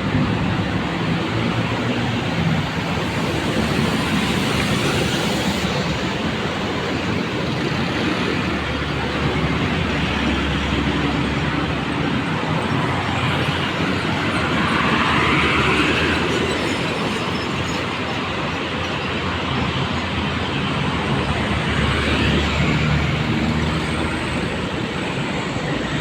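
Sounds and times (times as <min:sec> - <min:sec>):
passing road traffic: 0:00.0 - 0:26.0.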